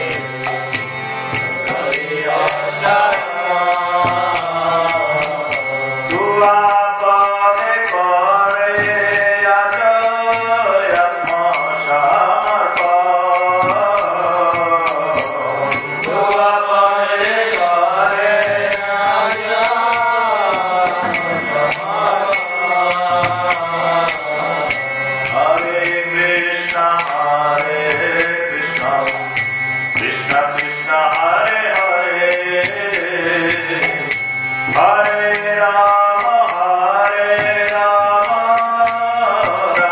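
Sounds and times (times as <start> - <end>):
light percussion beat: 0.0 - 39.9
man singing a chant: 0.0 - 39.9.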